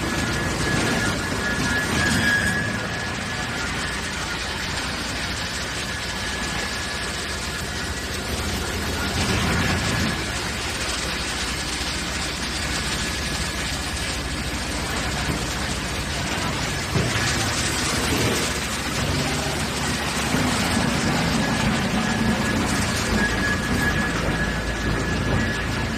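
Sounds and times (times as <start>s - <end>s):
wood chipper running: 0.0s - 25.9s.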